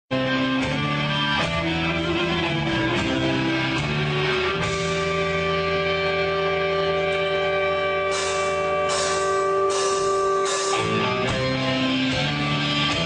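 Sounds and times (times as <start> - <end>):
guitar music: 0.1 - 13.0.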